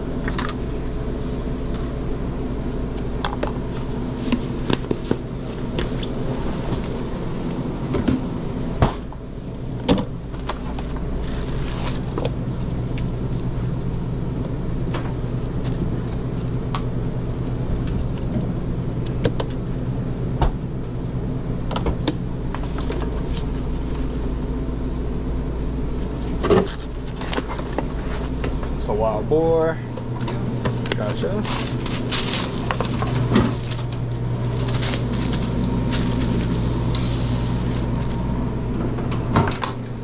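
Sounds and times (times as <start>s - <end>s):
kitchen machinery humming: 0.0s - 40.0s.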